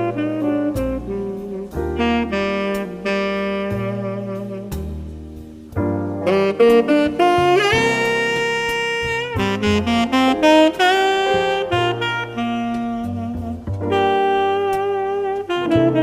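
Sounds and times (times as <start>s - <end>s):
bass line: 0.0s - 16.0s
light percussion: 0.0s - 16.0s
saxophone melody: 0.0s - 16.0s
smooth jazz music: 0.0s - 16.0s.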